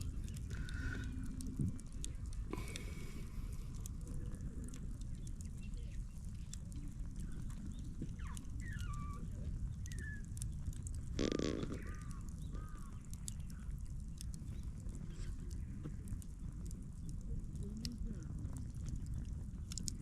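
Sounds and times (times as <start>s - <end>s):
low steady rumble: 0.0s - 20.0s
small birds chirping: 0.0s - 20.0s.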